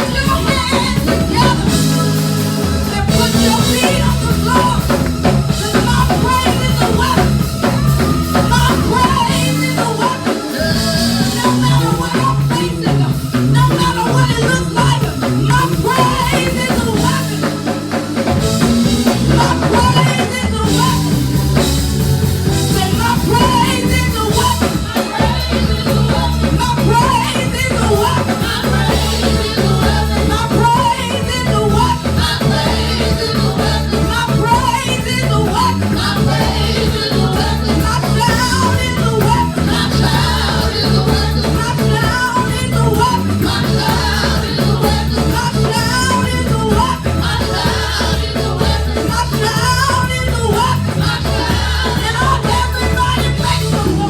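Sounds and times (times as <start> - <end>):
people singing: 0.0 - 54.0
upbeat worship band: 0.0 - 54.0.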